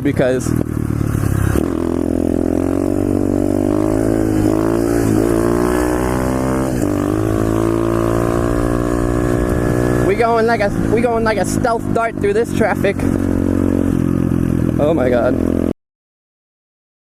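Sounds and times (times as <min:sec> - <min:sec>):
pit bike engine running: 0:00.0 - 0:15.7.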